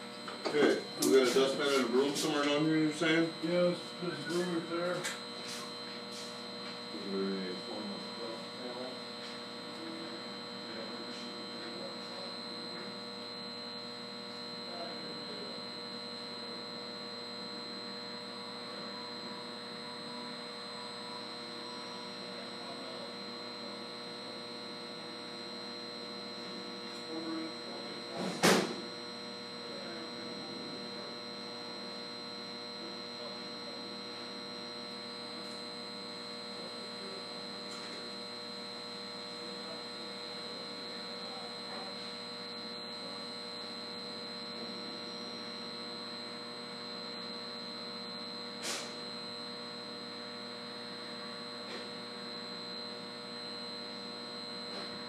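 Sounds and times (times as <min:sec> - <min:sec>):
electrical equipment hum: 0:00.0 - 0:55.0.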